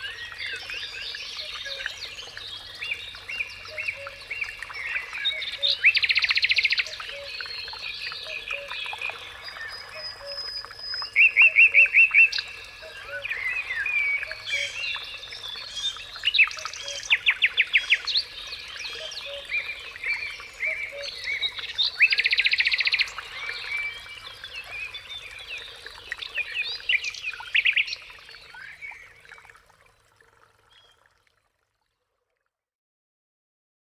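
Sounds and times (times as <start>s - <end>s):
songbirds singing: 0.0s - 29.4s.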